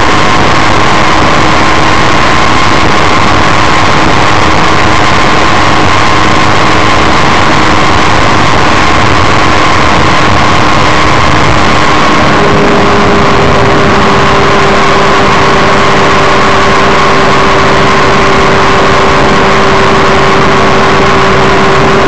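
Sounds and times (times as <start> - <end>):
microlight engine and propeller: 0.0 - 22.0
wind rushing over microphone: 0.0 - 22.0.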